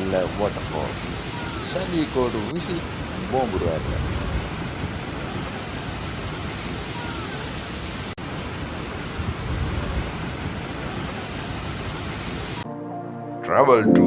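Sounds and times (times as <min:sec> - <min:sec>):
waterfall roaring: 0:00.0 - 0:12.6.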